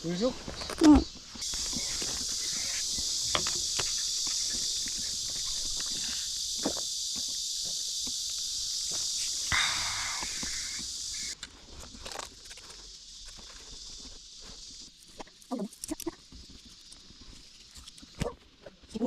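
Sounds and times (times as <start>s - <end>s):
cicadas singing in chorus: 0.0s - 19.0s.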